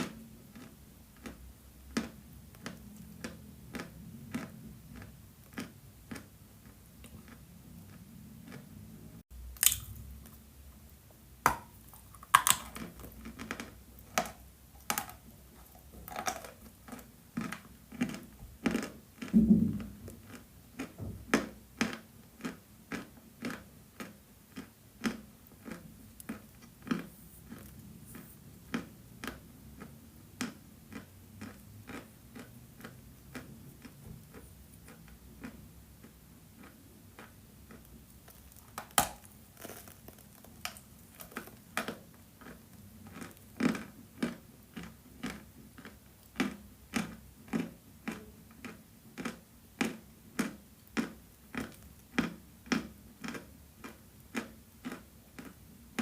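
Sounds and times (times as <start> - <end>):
chalk being chewed crunchily: 0.0 - 8.9, 12.0 - 19.3, 20.1 - 56.0.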